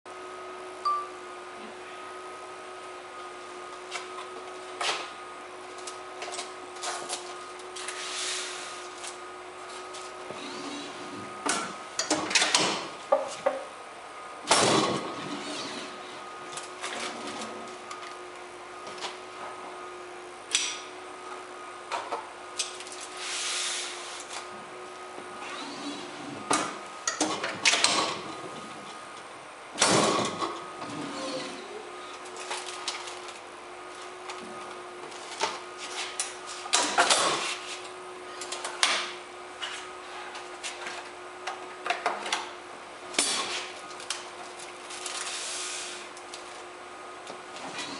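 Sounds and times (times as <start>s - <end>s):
steady machine hum: 0.1s - 47.9s.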